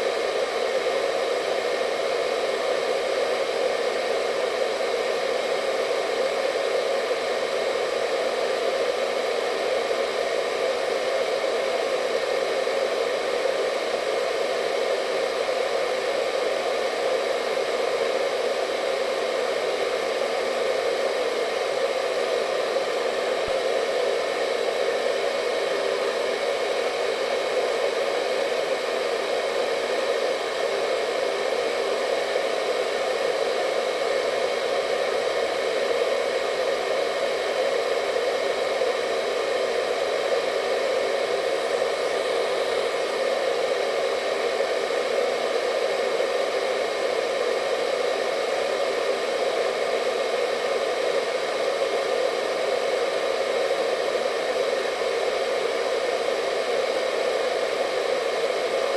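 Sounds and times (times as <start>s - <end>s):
hair dryer running: 0.0s - 58.9s.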